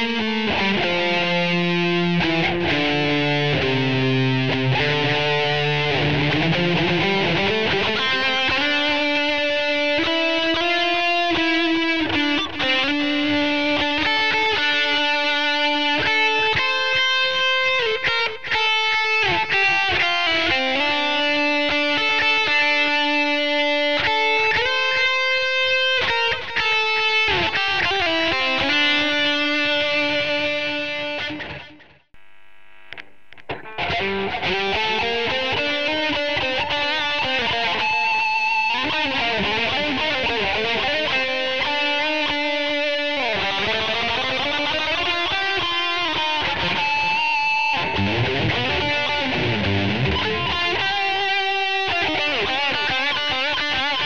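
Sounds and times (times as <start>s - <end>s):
electric guitar lead with bends: 0.0s - 32.0s, 32.9s - 54.0s.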